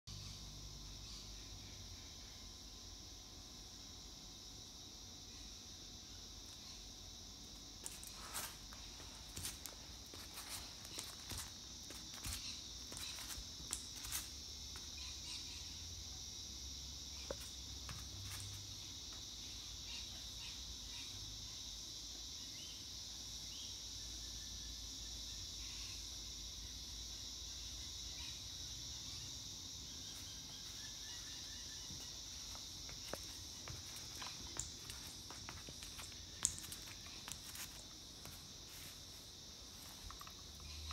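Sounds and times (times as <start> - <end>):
high-pitched insect chorus: 0.1 - 40.9.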